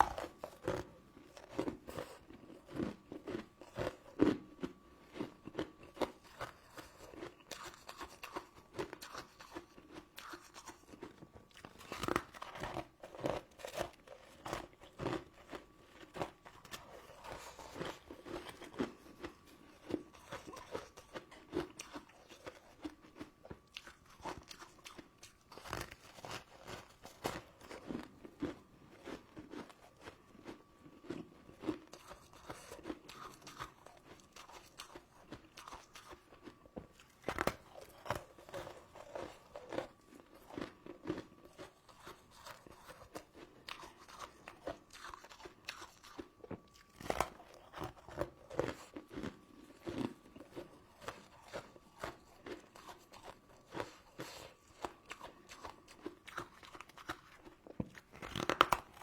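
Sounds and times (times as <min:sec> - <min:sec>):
crunchy sweets chewing: 0:00.0 - 0:59.0.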